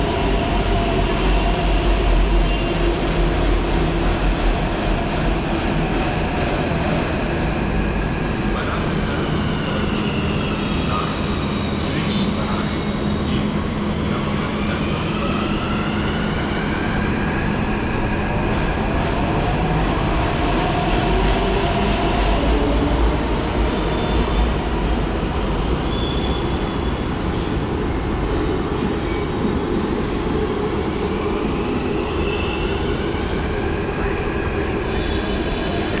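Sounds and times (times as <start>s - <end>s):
train running on rails: 0.0s - 36.0s.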